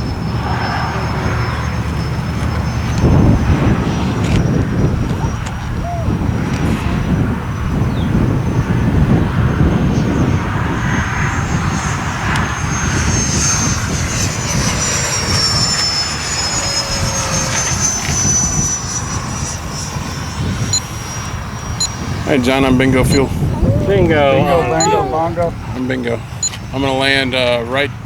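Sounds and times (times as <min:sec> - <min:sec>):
model jets flying by: 0:00.0 - 0:28.0.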